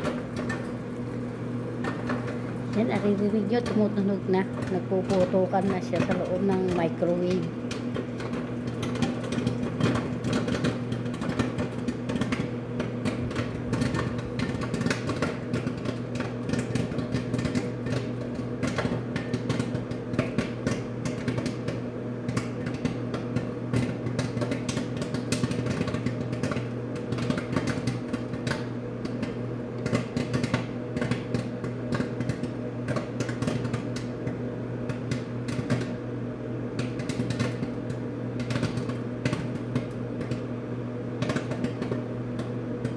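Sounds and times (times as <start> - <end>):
microwave oven humming: 0.0 - 42.9
popcorn popping: 0.0 - 42.9.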